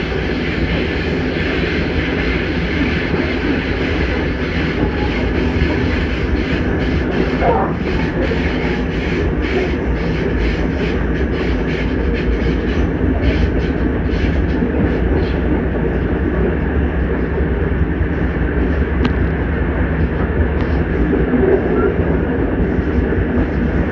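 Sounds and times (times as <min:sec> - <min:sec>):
train cars rumbling: 0:00.0 - 0:23.9.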